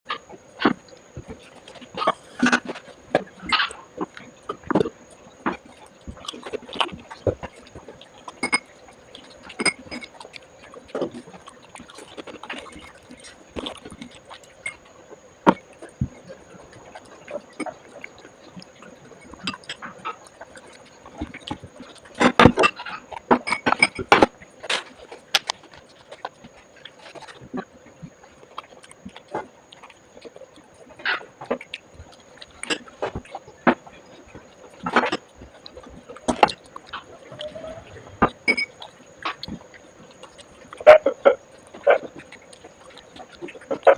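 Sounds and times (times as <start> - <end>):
person chewing: 0.1 - 43.9.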